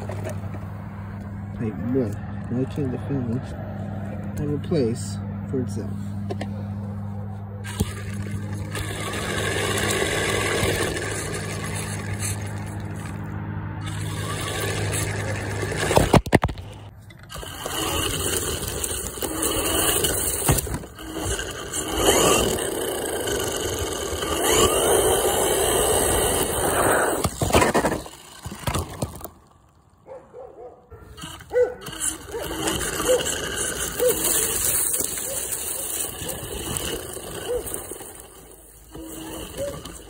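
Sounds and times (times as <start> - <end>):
rc truck motor whining: 0.0 - 5.1, 5.9 - 29.9, 31.0 - 40.0
tyres scraping dirt: 0.0 - 40.0.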